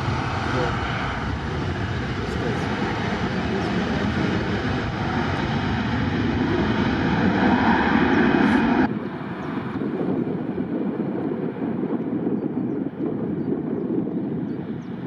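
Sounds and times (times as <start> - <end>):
dull rumble: 0.0 - 15.0
jet engines roaring: 0.0 - 15.0.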